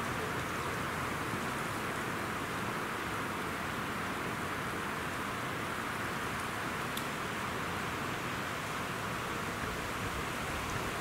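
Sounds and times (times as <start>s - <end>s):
wind through pine trees: 0.0s - 11.0s.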